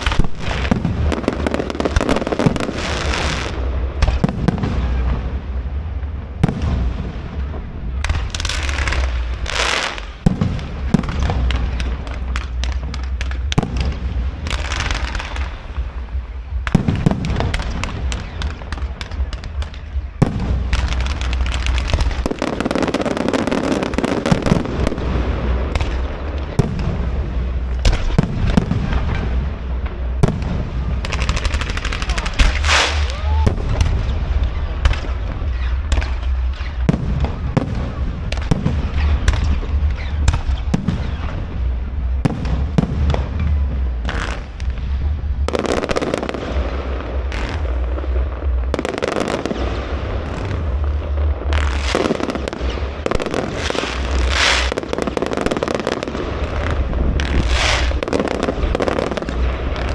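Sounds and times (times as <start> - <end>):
fireworks cracks and bangs: 0.0 - 59.9
low rumble: 0.0 - 59.9.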